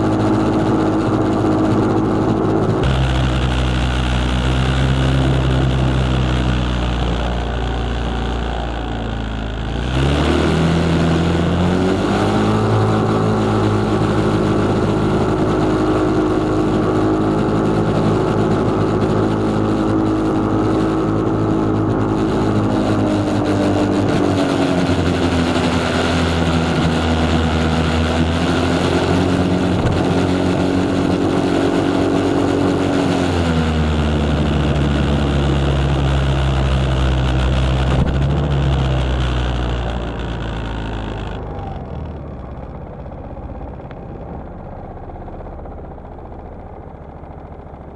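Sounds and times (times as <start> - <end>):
scooter engine accelerating: 0.0 - 47.9.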